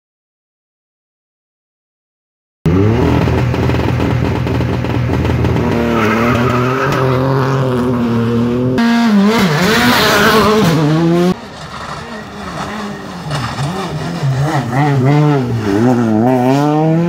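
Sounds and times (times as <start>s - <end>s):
rally car engine revving: 2.7s - 17.0s.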